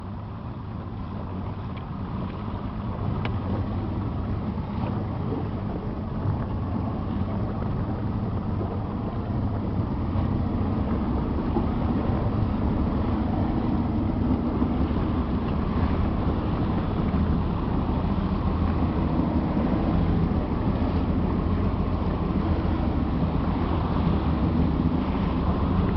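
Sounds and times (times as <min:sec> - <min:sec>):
motorboat engine running: 0:00.0 - 0:25.9
water rushing: 0:00.0 - 0:25.9.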